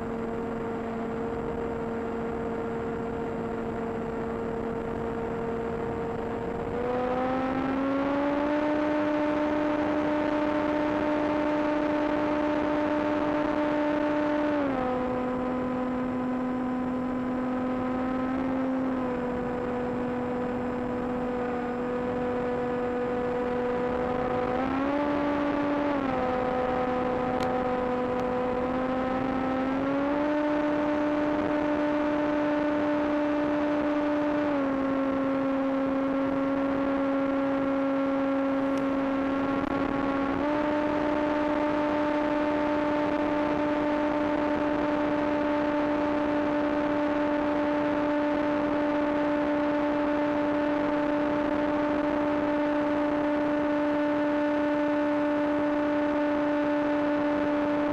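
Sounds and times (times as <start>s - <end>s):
electric motor and propeller whine: 0.0s - 57.9s.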